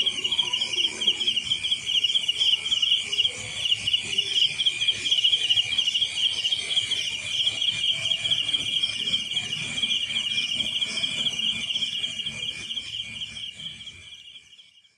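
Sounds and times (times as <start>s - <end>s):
crickets chirping: 0.0s - 14.9s.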